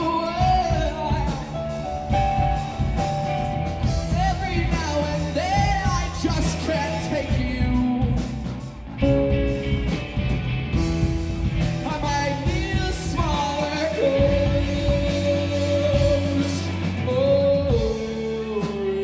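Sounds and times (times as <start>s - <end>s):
live rock band with vocals: 0.0s - 19.0s.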